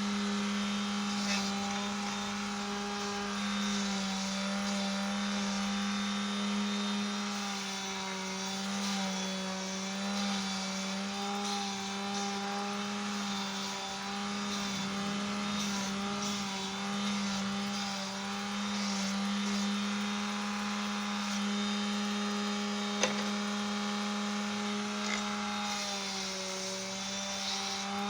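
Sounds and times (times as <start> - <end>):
power sander motor humming: 0.0 - 8.6, 11.4 - 28.0
wood being sanded: 0.0 - 28.0.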